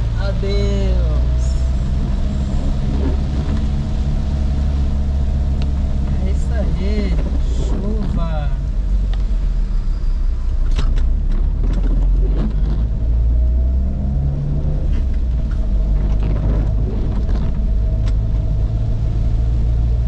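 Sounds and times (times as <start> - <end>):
engine and tyres on wet road: 0.0 - 20.0.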